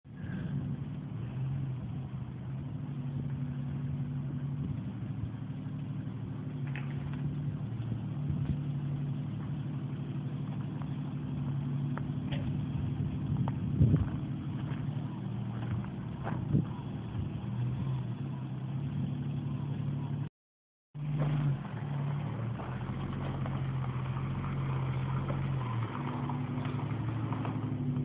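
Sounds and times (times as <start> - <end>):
car engine running at low revs: 0.0 - 20.3, 21.0 - 28.0.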